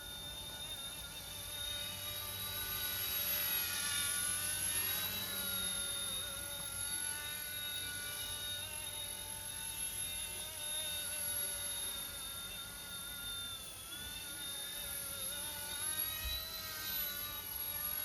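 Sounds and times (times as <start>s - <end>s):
model helicopter electric whine: 0.0s - 18.0s.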